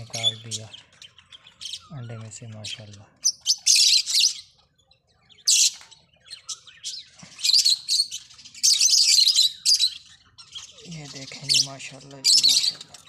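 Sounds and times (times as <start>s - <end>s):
lovebirds shrill chirps: 0.0s - 13.0s.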